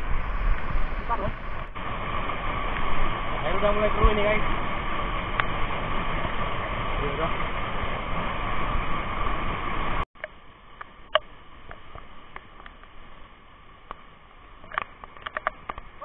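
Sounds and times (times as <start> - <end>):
stream rushing over rapids: 0.0 - 16.0.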